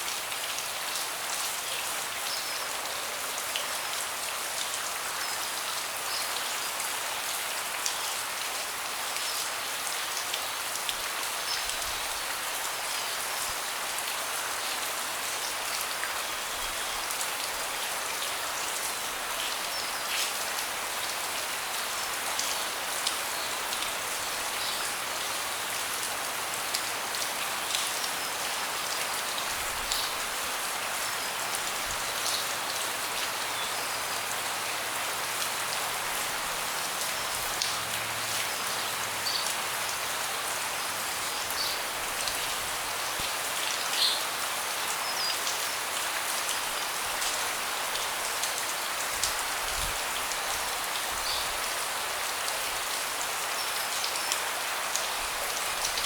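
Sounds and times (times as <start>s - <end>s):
rain falling on a deck: 0.0s - 56.0s.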